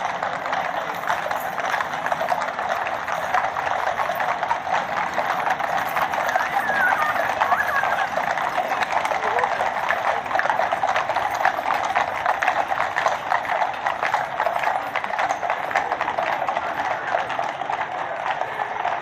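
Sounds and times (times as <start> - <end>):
horse hooves clip-clopping on road: 0.0 - 19.0.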